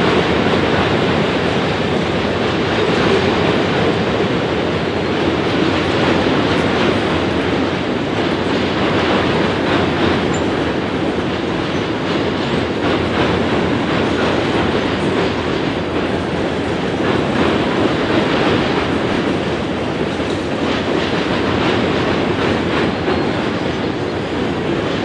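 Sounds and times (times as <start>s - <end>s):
train wheels rumbling on bridge: 0.0s - 25.0s.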